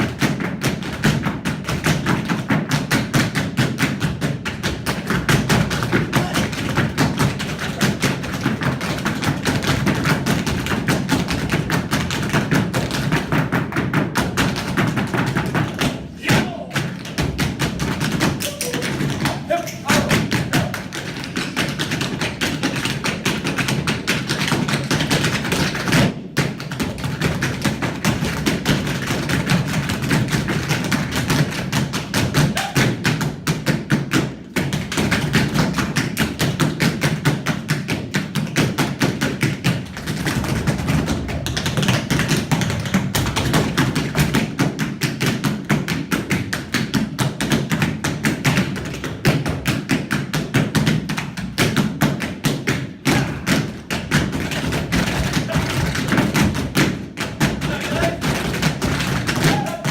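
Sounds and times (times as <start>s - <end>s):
tap dancing boot strikes: 0.0s - 59.9s.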